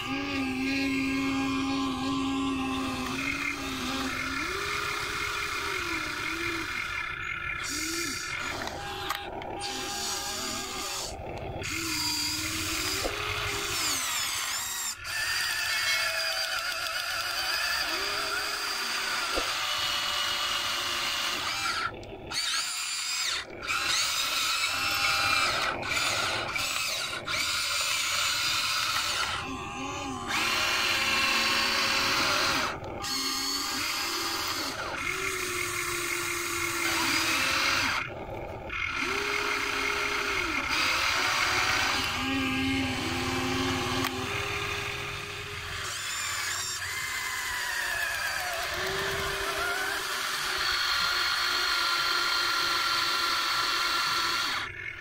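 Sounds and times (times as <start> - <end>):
electric motors whirring: 0.0 - 55.0.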